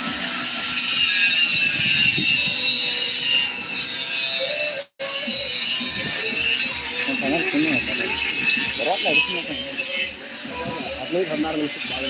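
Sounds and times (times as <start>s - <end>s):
angle grinder grinding steel: 0.0s - 12.0s.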